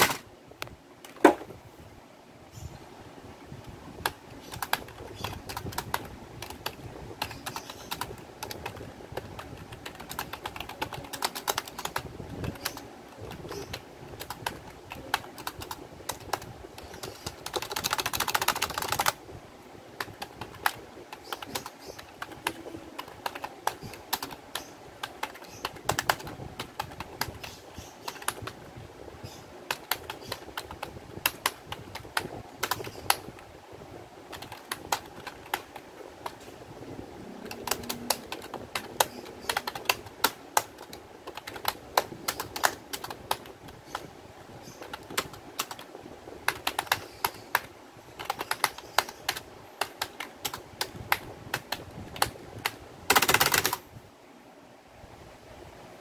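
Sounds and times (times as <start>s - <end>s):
fast keyboard typing: 4.0s - 19.2s, 20.0s - 28.6s, 29.2s - 33.4s, 34.3s - 36.4s, 37.4s - 53.8s.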